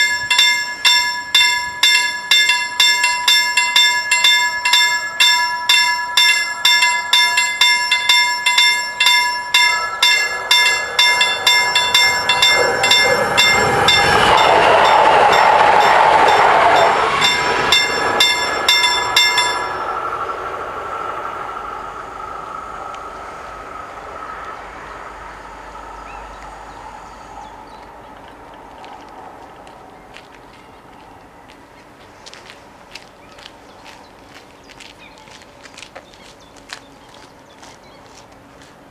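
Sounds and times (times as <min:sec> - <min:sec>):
level-crossing warning bells: 0:00.0 - 0:31.8
train passing: 0:00.0 - 0:38.9.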